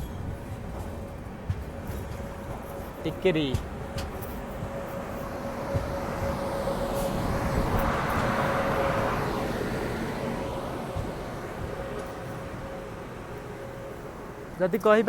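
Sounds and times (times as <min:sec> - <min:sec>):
rushing noise: 0:00.0 - 0:14.7
thin steady whine: 0:00.0 - 0:15.0
train rumble on track: 0:00.0 - 0:15.0.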